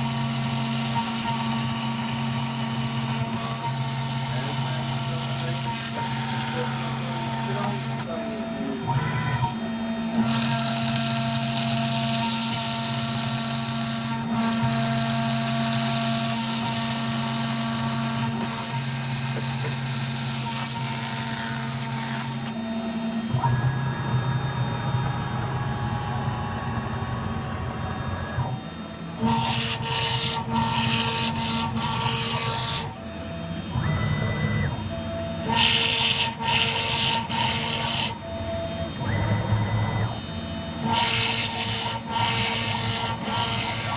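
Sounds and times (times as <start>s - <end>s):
milling machine spindle whine: 0.0s - 43.9s.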